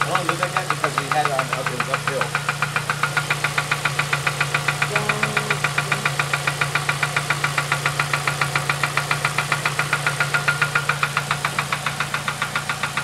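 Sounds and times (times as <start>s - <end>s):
engine idling with knocking: 0.0s - 13.0s.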